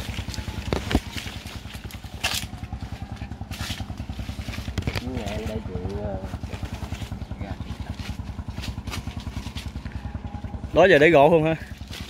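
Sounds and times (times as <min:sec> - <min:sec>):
rustles and clatters: 0:00.0 - 0:12.0
small engine puttering: 0:00.0 - 0:12.0.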